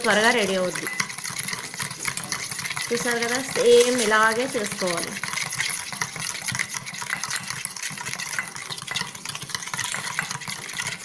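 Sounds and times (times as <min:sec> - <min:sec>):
spoon whipping in metal bowl: 0:00.0 - 0:11.0.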